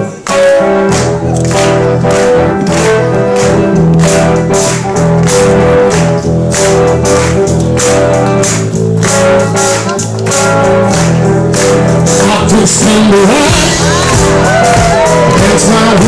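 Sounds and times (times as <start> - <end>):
live band playing: 0.0 - 16.0
drums keeping steady beat: 0.3 - 16.0.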